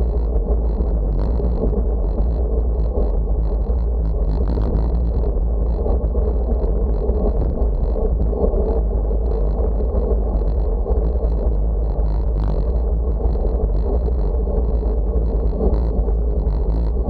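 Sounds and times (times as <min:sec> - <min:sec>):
wind buffeting the microphone: 0:00.0 - 0:17.0.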